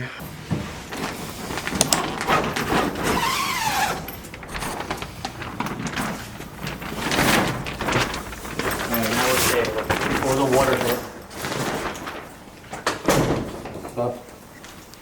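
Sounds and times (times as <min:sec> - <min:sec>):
knocks and clatter: 0:00.2 - 0:14.1.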